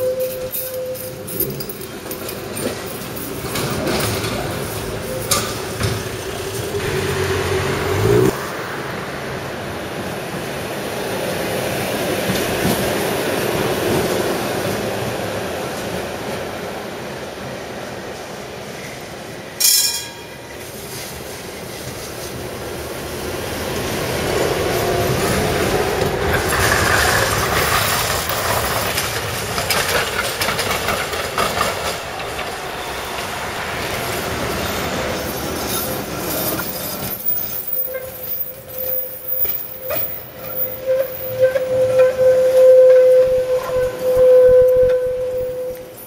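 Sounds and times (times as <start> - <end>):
tram wheels clattering on rails: 0.0 - 46.0.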